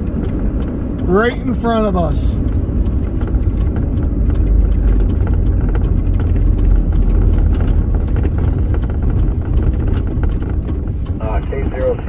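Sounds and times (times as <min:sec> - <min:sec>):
rain ticking on car: 0:00.0 - 0:12.0
wind and road noise: 0:00.0 - 0:12.0.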